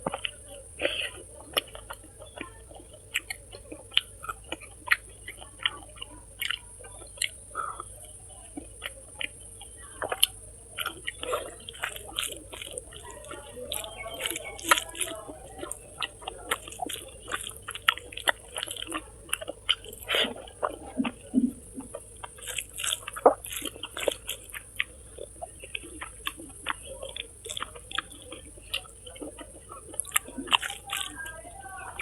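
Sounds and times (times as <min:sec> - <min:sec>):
person chewing and lip-smacking: 0:00.0 - 0:32.0.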